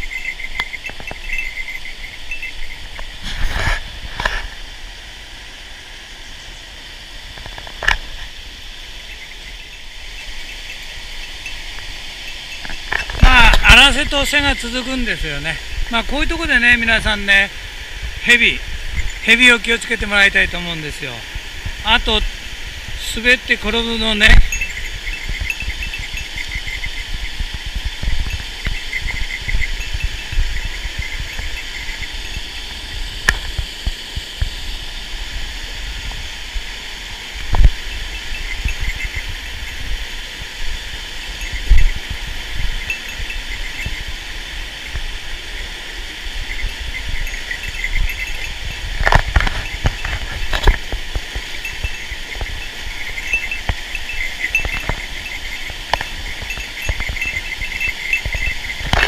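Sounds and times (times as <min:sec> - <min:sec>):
water rushing over rapids: 0:00.0 - 0:59.0.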